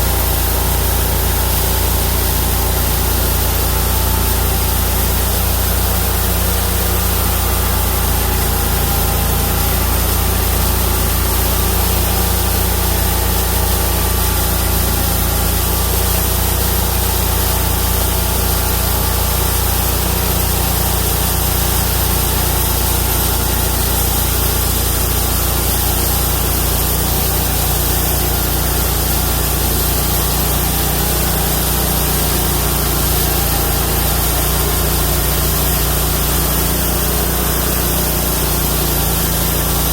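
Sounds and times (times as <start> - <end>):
bandsaw mill engine running: 0.0 - 39.9
saw blade cutting log: 0.0 - 39.9.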